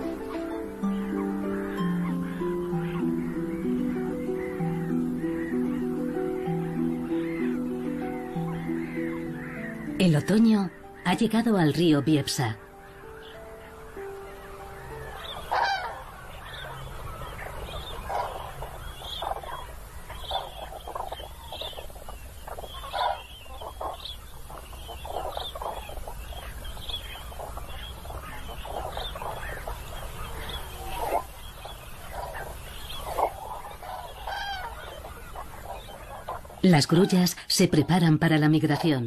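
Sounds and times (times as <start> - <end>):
flock of cranes calling: 0.0 - 39.0.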